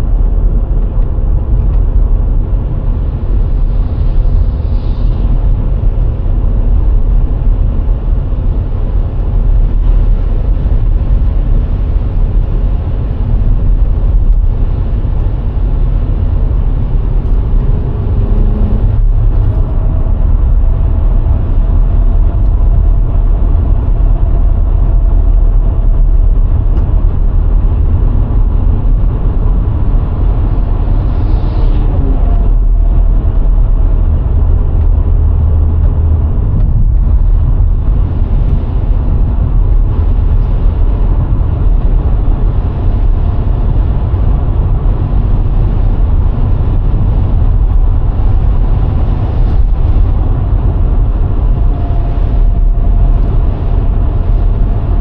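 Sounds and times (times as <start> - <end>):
car engine hum: 0.0 - 55.0
tyre and wind noise: 0.0 - 55.0.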